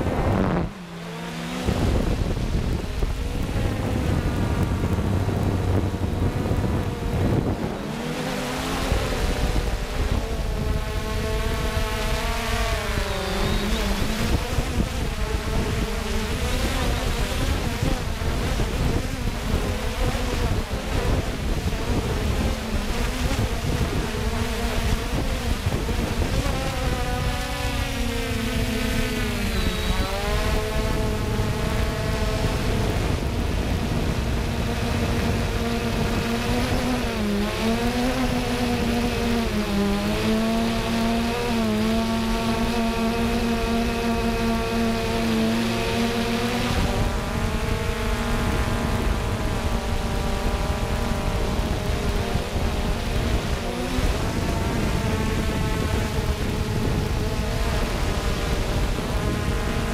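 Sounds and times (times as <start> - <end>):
drone propellers buzzing: 0.0 - 59.9
wind rumbling on microphone: 0.0 - 59.9.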